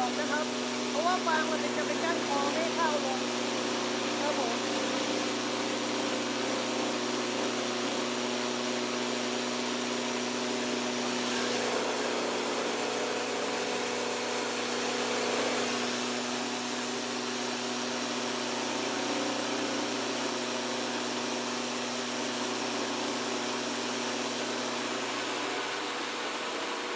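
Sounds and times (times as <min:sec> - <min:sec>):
rice mill motor humming: 0:00.0 - 0:26.9.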